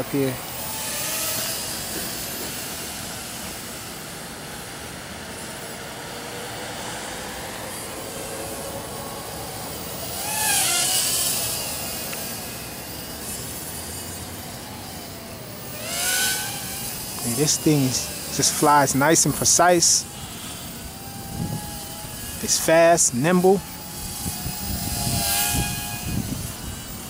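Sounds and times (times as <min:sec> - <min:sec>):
drone motors whining: 0:00.0 - 0:27.0
road traffic rush: 0:00.0 - 0:27.0.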